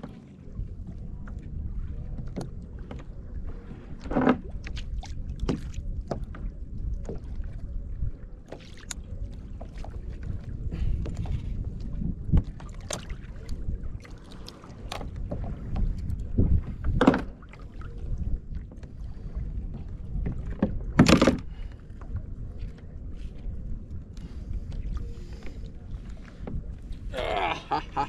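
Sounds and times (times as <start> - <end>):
water sloshing against kayak hull: 0.0 - 28.0
steady low rumble: 0.4 - 28.0.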